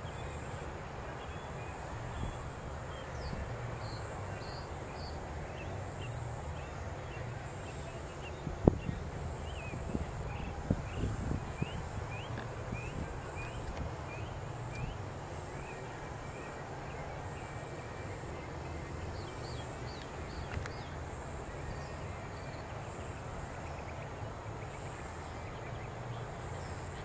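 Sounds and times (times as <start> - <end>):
small birds chirping: 1.2 - 27.0.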